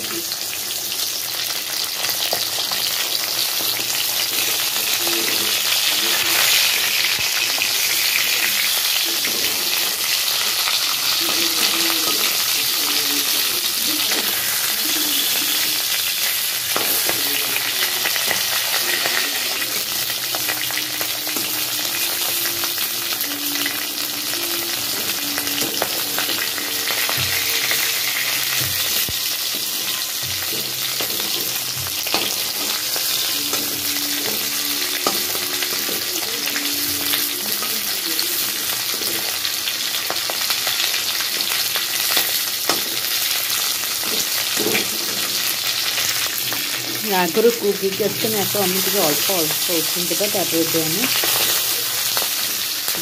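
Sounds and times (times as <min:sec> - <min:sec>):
fish sizzling in hot oil: 0:00.0 - 0:53.0.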